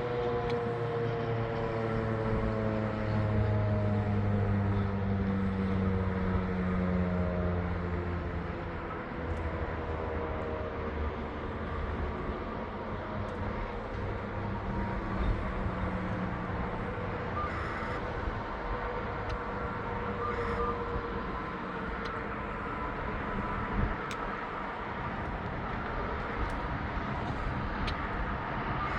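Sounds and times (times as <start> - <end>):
vehicle traffic: 0.0 - 28.9.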